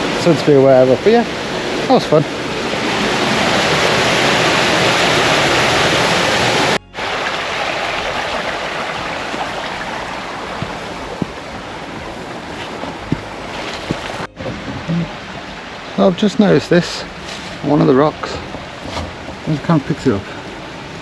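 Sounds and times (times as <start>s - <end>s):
stream and waterfall rushing: 0.0s - 21.0s.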